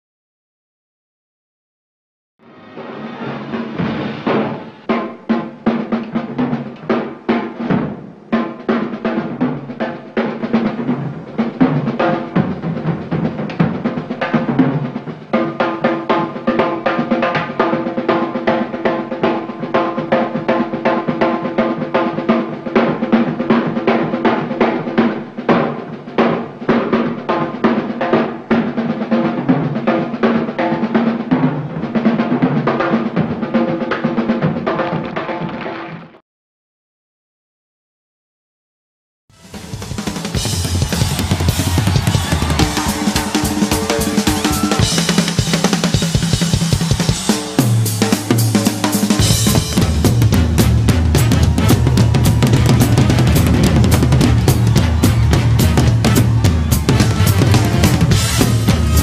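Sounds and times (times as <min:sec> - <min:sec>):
fast drum solo: 0:03.4 - 0:35.6, 0:39.4 - 0:59.0.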